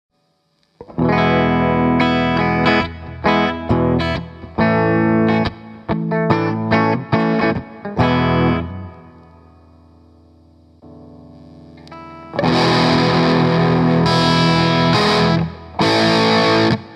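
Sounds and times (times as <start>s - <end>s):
overdriven electric guitar: 0.2s - 16.9s.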